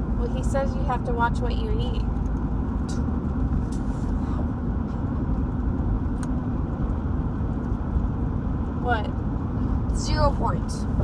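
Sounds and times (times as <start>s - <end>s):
faint constant hum: 0.0s - 11.0s
low rumbling background noise: 0.0s - 11.0s.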